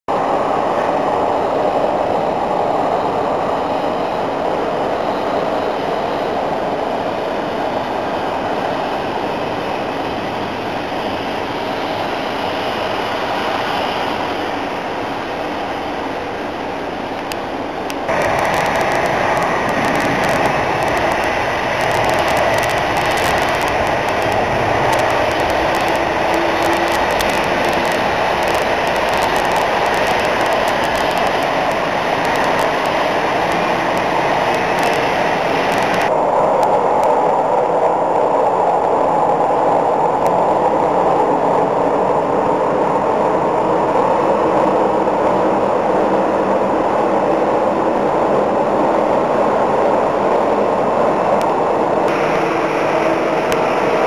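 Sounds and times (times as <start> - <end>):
jet engines roaring: 0.1 - 54.0.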